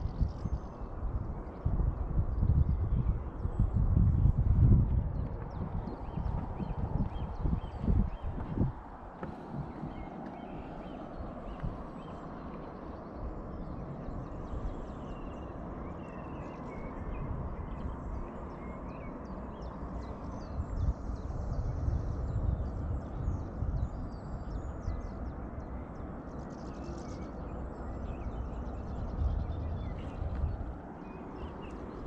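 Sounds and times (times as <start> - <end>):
small birds chirping: 0.0 - 32.0
wind on microphone: 0.0 - 32.0.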